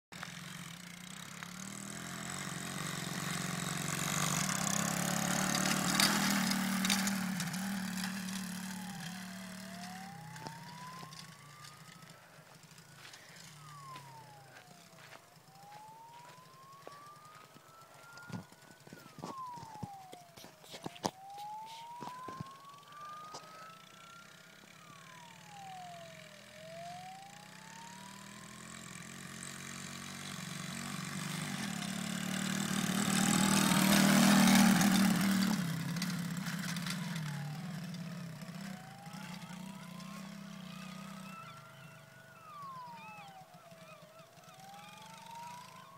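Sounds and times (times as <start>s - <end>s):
siren wailing: 0.2s - 45.9s.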